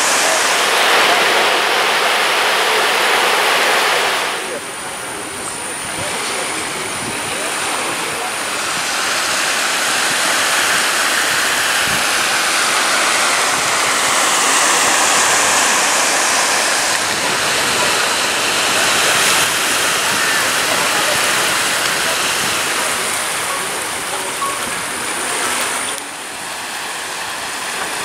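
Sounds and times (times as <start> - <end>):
small waves washing on shore: 0.0 - 28.0.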